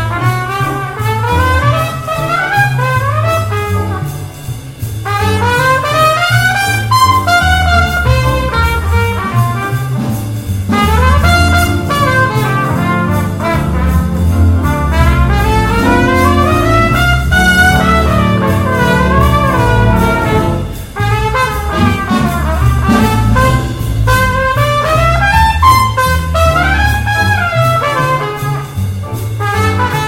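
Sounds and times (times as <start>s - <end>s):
trumpet leading: 0.0s - 4.4s, 5.0s - 30.0s
jazz big band playing: 0.0s - 30.0s.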